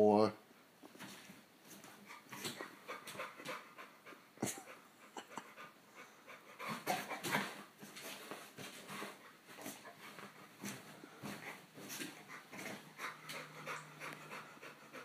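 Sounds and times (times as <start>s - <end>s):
dog panting: 1.7s - 15.0s.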